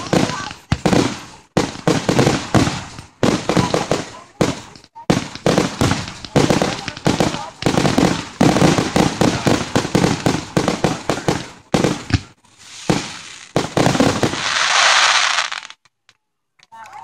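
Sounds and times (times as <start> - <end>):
dense firework crackle: 0.0 - 15.9
firework shell bursts: 0.0 - 15.9.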